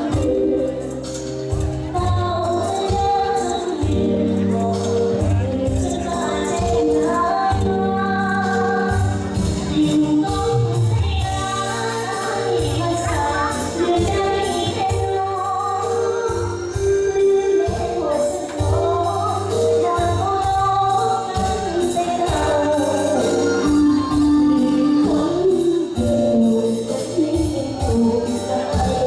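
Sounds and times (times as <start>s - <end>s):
backing music with steady beat: 0.0s - 29.0s
woman singing into microphone: 0.0s - 29.0s.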